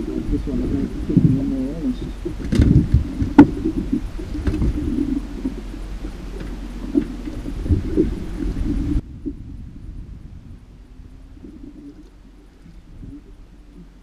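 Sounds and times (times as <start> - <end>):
water noise: 0.0 - 14.0
wind: 0.0 - 14.0.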